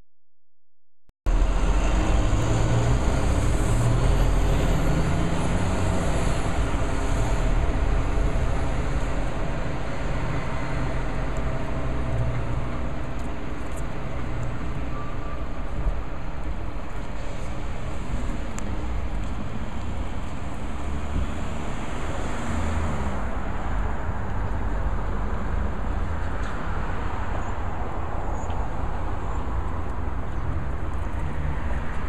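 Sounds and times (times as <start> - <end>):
vehicle engines rumbling past: 1.3 - 32.0.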